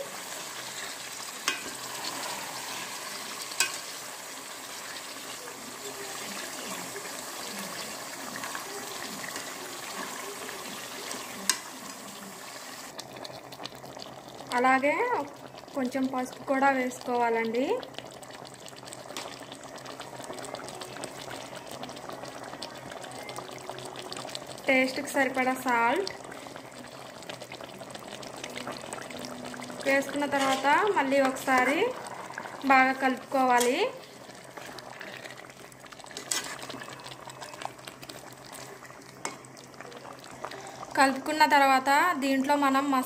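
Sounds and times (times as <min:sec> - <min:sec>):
chicken sizzling in oil: 0:00.0 - 0:42.1.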